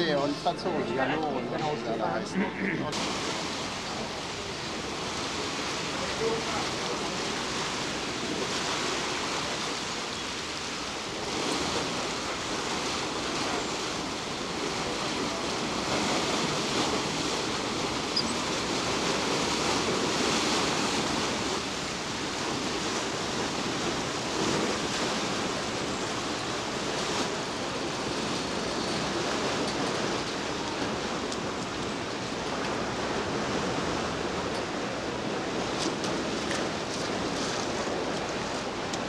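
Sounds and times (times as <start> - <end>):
water rushing in lock chamber: 0.0 - 39.0.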